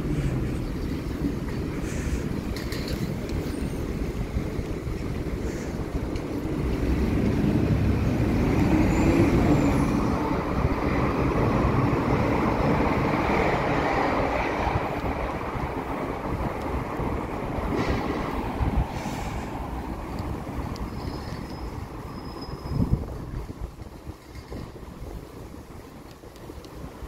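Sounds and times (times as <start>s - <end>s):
city street traffic: 0.0s - 27.0s
wind rumble on microphone: 0.0s - 27.0s.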